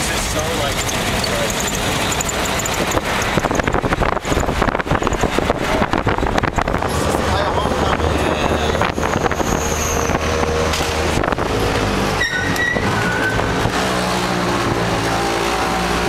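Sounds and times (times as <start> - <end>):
small engine droning: 0.0 - 16.0
wind and road noise: 0.0 - 16.0.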